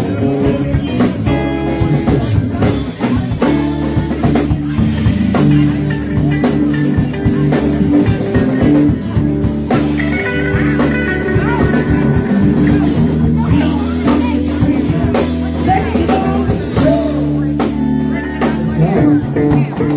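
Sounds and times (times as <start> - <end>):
lead guitar bending notes: 0.0 - 19.9
rock band playing: 0.0 - 19.9.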